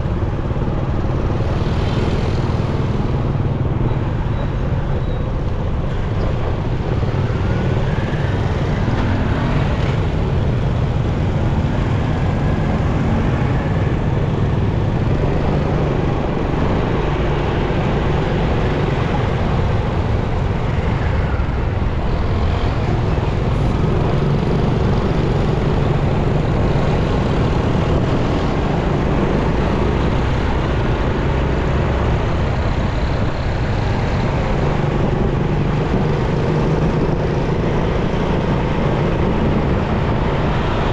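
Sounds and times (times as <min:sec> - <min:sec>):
passing vehicles: 0:00.0 - 0:40.9
road noise: 0:00.0 - 0:40.9.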